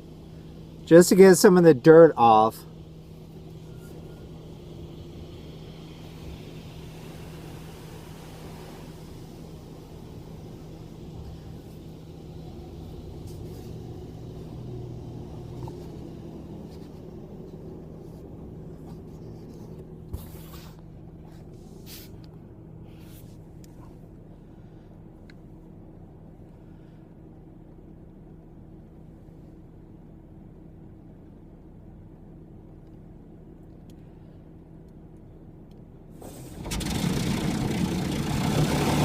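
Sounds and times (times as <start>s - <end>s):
car wash machinery rumble: 0.0s - 39.0s.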